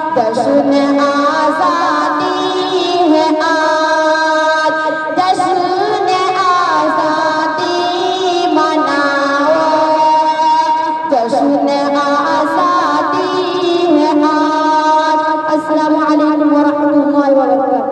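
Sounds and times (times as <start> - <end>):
girl singing into microphone: 0.0 - 17.9.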